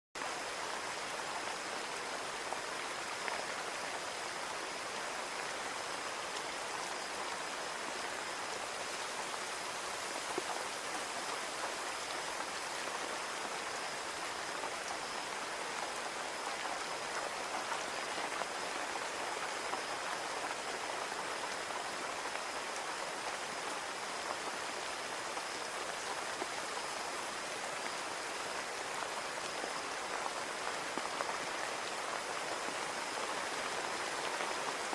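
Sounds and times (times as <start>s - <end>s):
rain hissing on a window: 0.2s - 34.9s.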